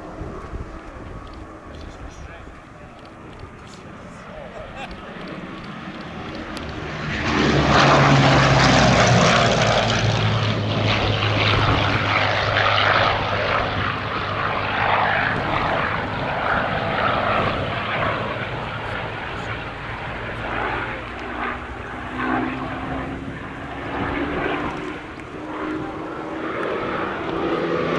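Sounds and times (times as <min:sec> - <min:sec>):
propeller plane engine flypast: 0:00.0 - 0:27.9.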